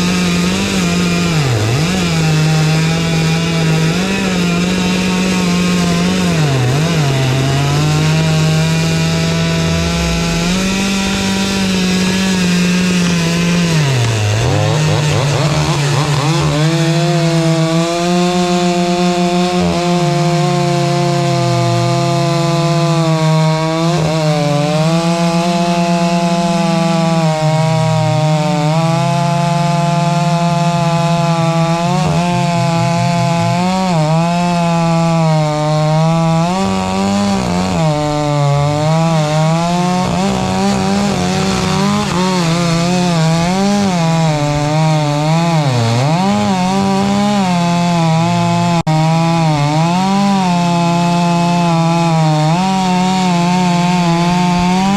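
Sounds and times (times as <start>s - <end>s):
chainsaw cutting tree trunk: 0.0s - 54.9s.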